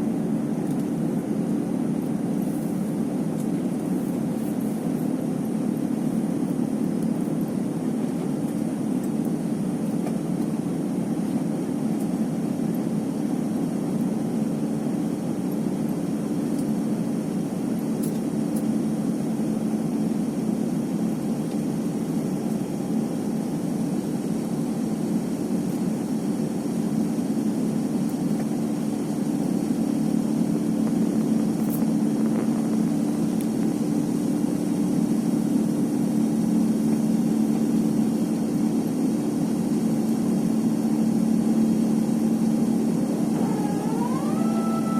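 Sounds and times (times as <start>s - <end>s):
jet engines humming: 0.0s - 44.9s.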